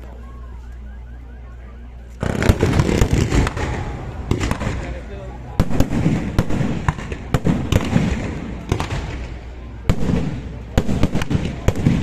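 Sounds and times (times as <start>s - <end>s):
fireworks crackling and rumble: 0.0s - 12.0s.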